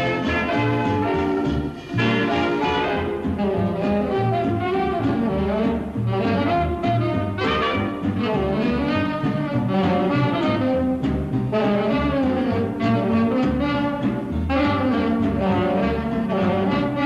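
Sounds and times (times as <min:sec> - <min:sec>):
dance orchestra with brass: 0:00.0 - 0:17.0
steady bass line: 0:00.0 - 0:17.0.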